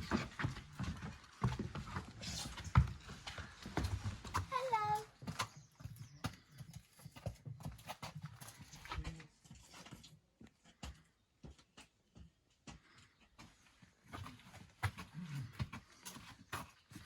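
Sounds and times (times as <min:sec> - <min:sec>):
footsteps on rocky trail: 0:00.0 - 0:17.0.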